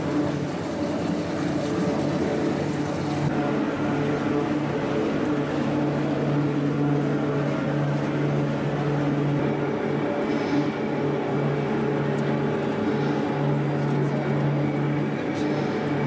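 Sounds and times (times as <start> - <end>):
factory machinery drone: 0.0 - 16.0.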